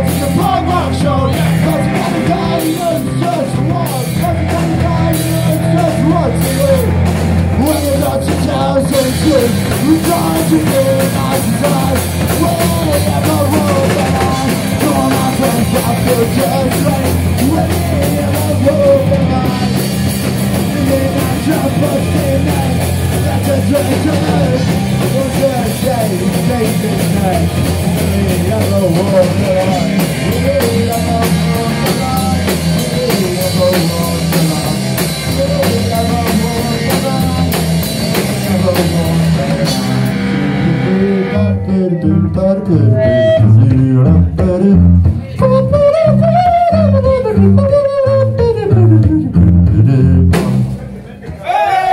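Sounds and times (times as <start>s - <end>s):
drum kit: 0.0s - 41.4s, 43.0s - 51.9s
electric guitars: 0.0s - 51.0s.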